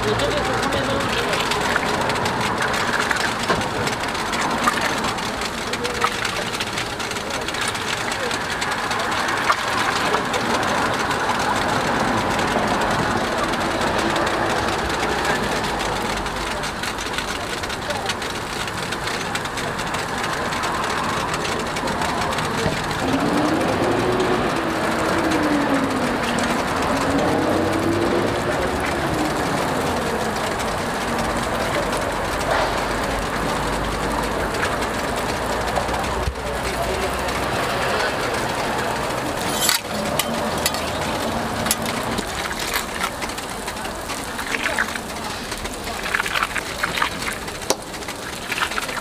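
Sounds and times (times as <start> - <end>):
low street noise rumble: 0.0 - 49.0.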